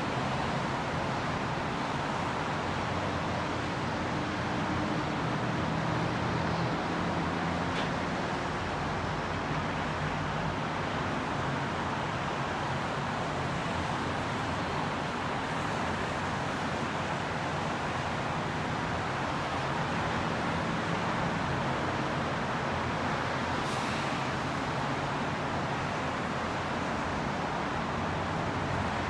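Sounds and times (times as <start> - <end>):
heavy freeway traffic roar: 0.0 - 29.0
heavy vehicle engine hum: 0.0 - 29.0.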